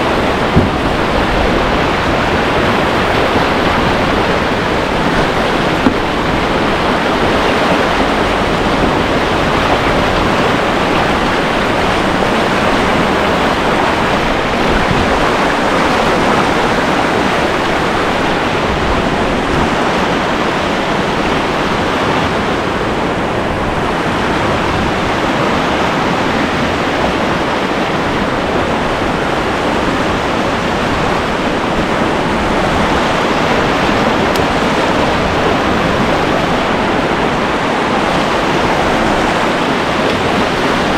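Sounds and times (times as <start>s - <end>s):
river rapids rushing: 0.0s - 40.9s.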